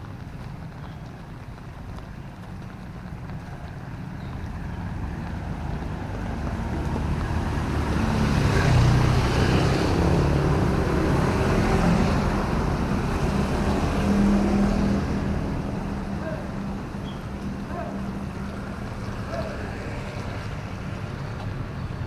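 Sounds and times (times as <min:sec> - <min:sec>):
traffic on wet road: 0:00.0 - 0:22.0.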